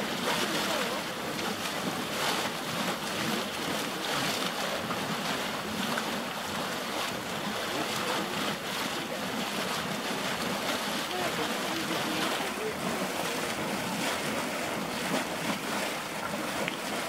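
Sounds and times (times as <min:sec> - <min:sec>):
spring water bubbling and splashing: 0:00.0 - 0:17.0.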